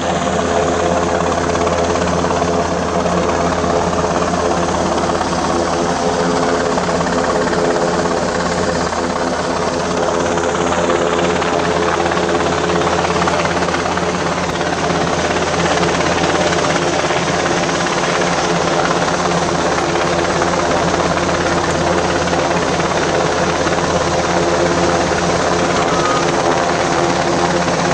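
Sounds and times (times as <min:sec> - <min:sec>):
helicopter flying overhead: 0:00.0 - 0:27.9.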